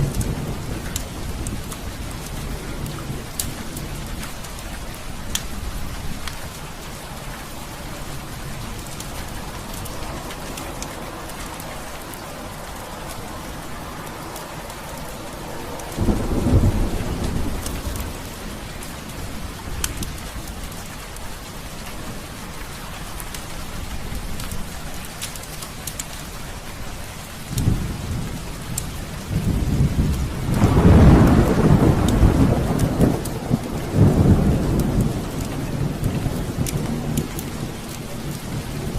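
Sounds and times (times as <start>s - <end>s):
thunder rumbling: 0.0s - 22.3s, 27.4s - 38.9s
heavy rain falling: 0.0s - 38.9s.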